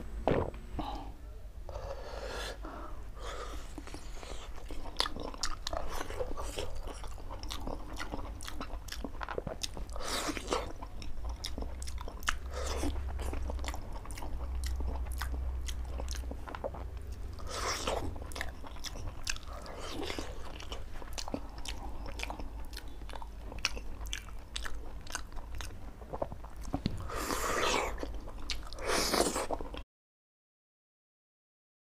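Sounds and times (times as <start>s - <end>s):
steady low hum: 0.0s - 29.8s
wet chewing mouth sounds: 3.4s - 29.8s.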